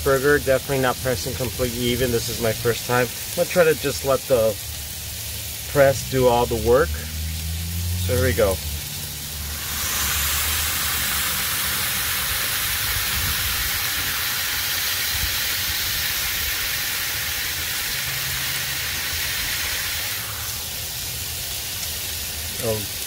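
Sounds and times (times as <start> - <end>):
beef patty sizzling on griddle: 0.0 - 23.0.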